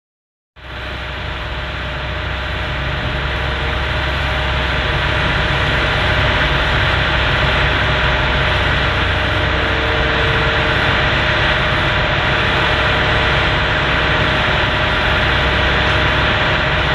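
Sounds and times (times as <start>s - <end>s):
excavator diesel engine running: 0.6s - 16.9s.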